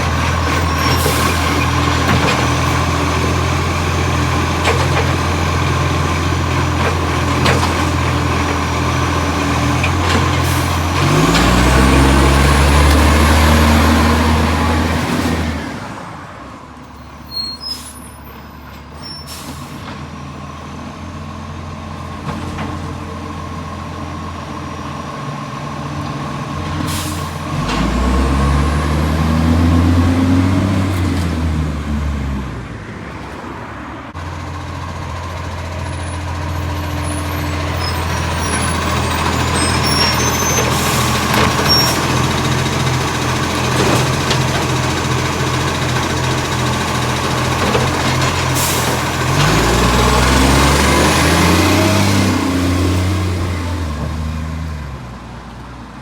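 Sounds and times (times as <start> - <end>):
diesel truck engine revving: 0.0 - 16.6, 17.2 - 55.6.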